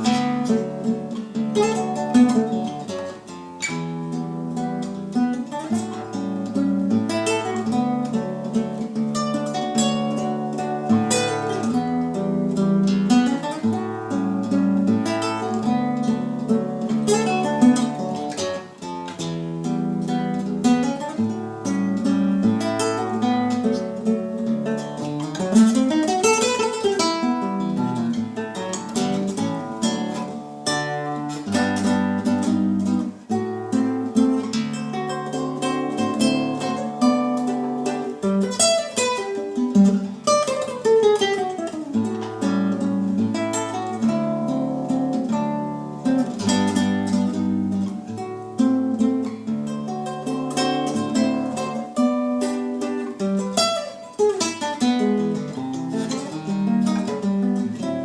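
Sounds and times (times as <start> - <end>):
fingerpicked acoustic guitar: 0.0 - 58.0.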